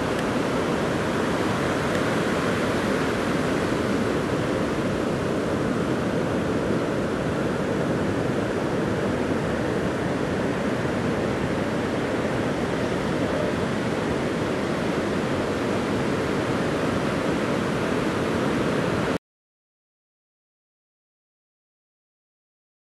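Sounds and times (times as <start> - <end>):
ocean surf: 0.0 - 19.2.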